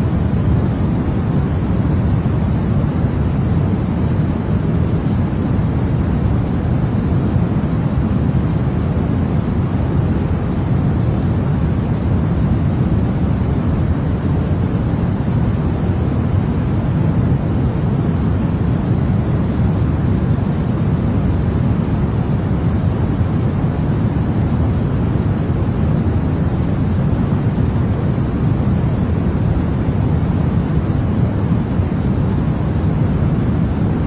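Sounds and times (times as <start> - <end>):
deep white noise: 0.0 - 34.0.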